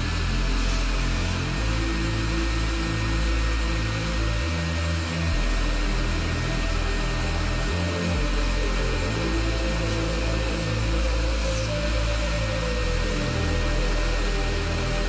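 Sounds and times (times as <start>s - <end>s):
background music with bass line: 0.0s - 15.0s
vacuum motor whoosh: 0.0s - 15.0s.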